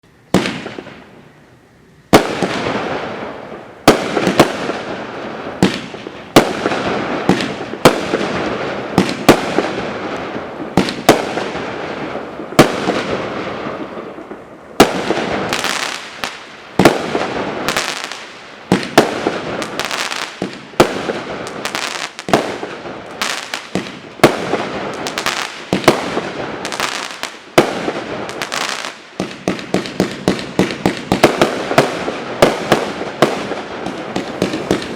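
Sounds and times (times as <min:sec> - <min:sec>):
fireworks hissing and crackling: 0:00.0 - 0:34.9
fireworks bangs: 0:00.3 - 0:01.3, 0:02.1 - 0:34.9.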